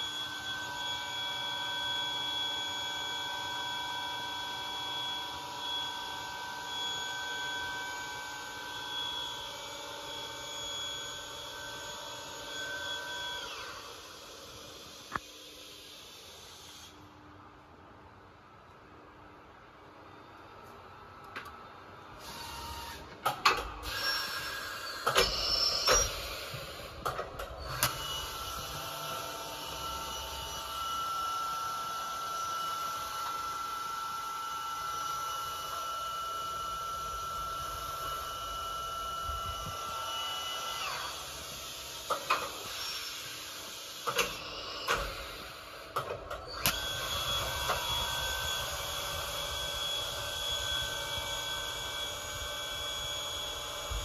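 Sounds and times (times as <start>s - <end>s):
machine whine: 0.0s - 17.1s, 19.8s - 54.0s.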